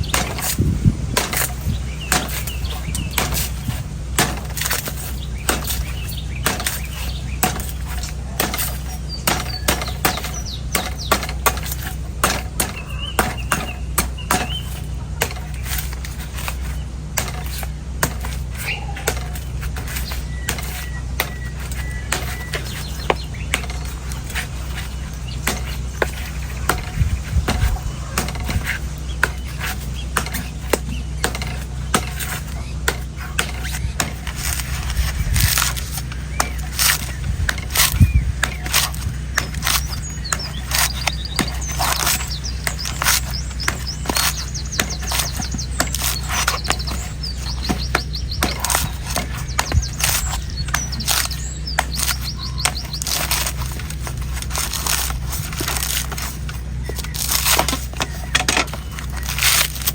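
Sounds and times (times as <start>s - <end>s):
knife chopping coconut husk: 0.0s - 59.9s
steady low hum: 0.0s - 59.9s.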